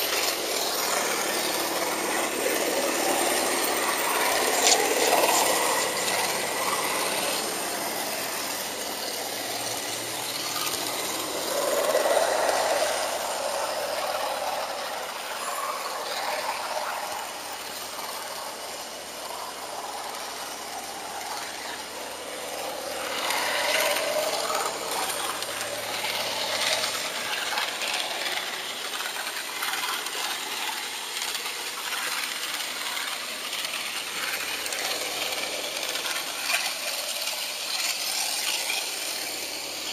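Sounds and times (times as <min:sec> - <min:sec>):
model train wheels rolling: 0:00.0 - 0:39.9.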